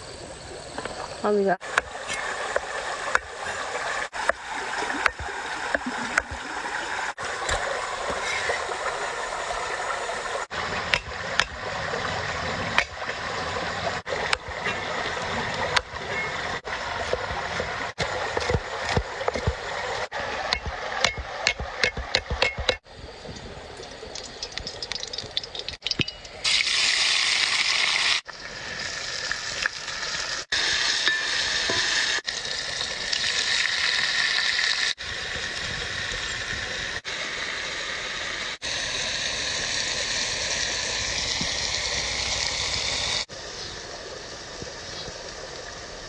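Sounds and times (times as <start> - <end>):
water splashing and trickling: 0.0 - 46.0.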